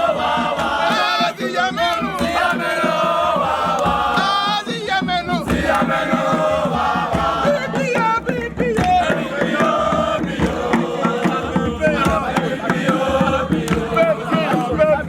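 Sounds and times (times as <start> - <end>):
group chanting a song: 0.0 - 15.0
percussive beats: 0.0 - 15.0.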